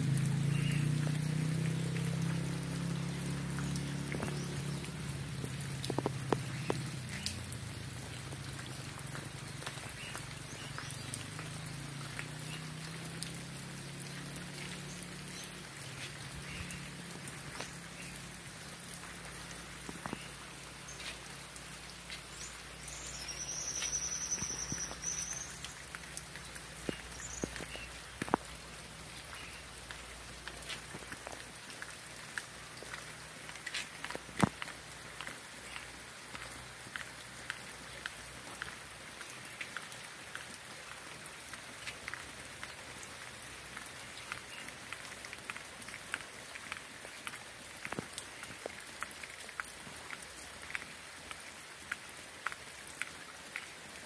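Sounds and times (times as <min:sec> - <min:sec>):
rain falling steadily: 0:00.0 - 0:54.0
raindrops tapping on surfaces: 0:00.0 - 0:54.0.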